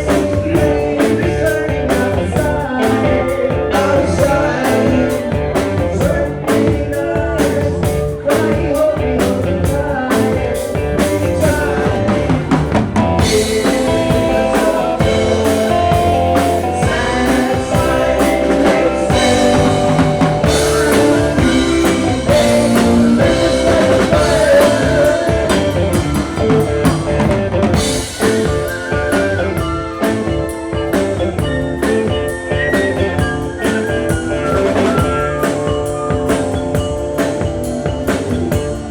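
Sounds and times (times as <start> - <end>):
rock band music with singing: 0.0 - 38.9.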